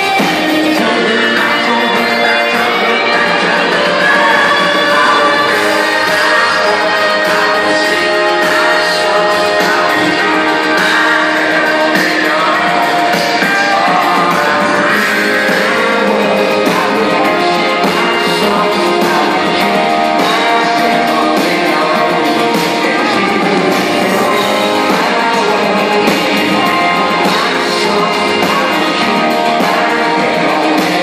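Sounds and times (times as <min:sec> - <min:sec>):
keyboards: 0:00.0 - 0:31.0
live band playing: 0:00.0 - 0:31.0
woman singing: 0:00.0 - 0:31.0.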